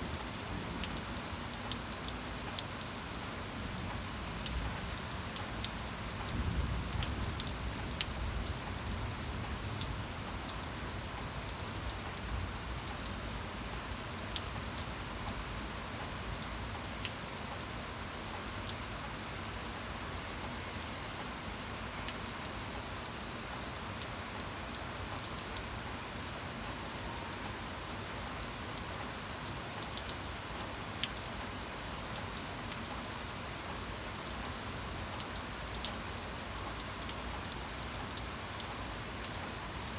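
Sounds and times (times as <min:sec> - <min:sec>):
steady rain with ticking drops: 0:00.0 - 0:39.9.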